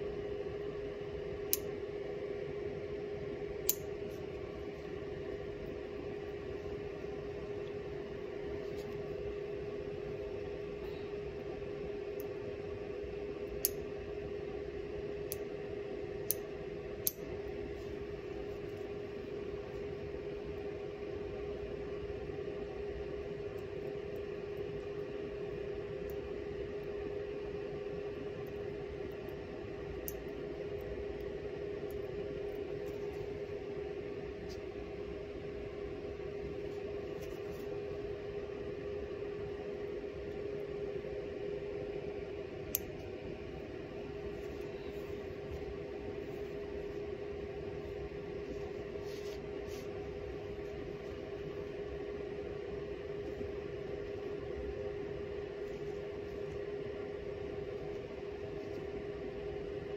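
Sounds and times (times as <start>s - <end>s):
background hum: 0.0s - 59.9s.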